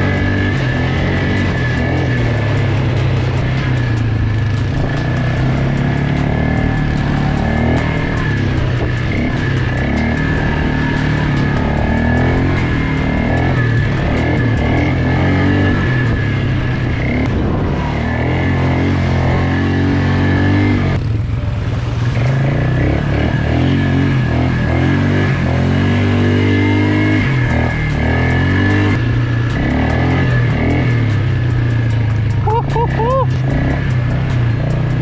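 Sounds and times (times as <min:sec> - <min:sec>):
atv engine revving: 0:00.0 - 0:35.0
background music: 0:00.0 - 0:35.0.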